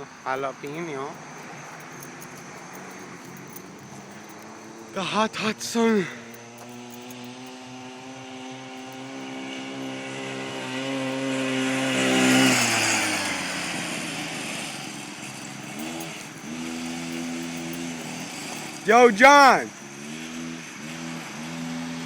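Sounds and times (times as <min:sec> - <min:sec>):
mini bike engine passing: 0:00.0 - 0:22.0.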